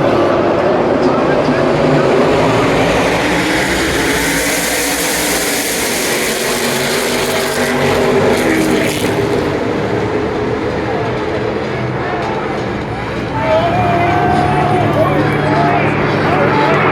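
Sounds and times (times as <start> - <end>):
race car engines droning: 0.0 - 16.9.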